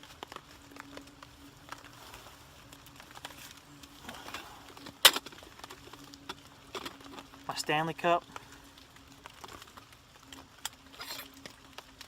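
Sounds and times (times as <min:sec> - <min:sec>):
gear rustling: 0:00.0 - 0:11.6
faint steady hum: 0:00.0 - 0:12.0
light ticks and patters: 0:00.0 - 0:12.0.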